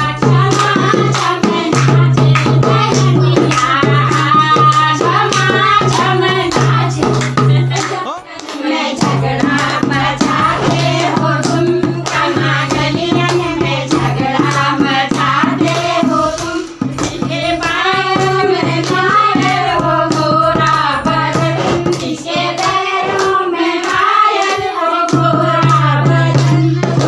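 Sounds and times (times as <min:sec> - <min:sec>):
group singing folk song: 0:00.0 - 0:27.0
sharp rhythmic strikes: 0:00.0 - 0:27.0.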